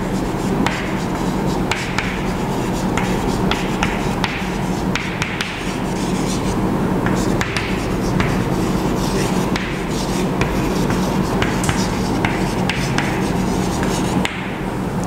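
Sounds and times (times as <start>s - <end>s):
chalk scratching on blackboard: 0.0s - 14.6s
steady low hum: 0.0s - 15.0s.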